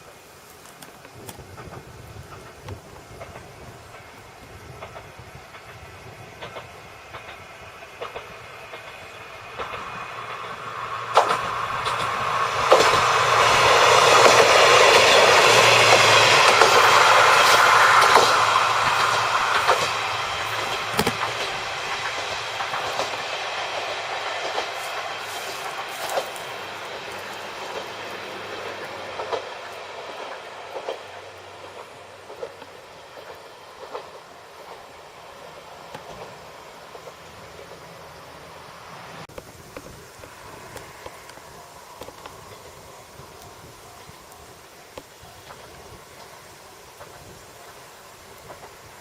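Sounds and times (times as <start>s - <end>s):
wheels clicking over rail joints: 0.0s - 38.5s, 39.2s - 49.0s
diesel railcar passing: 0.0s - 49.0s.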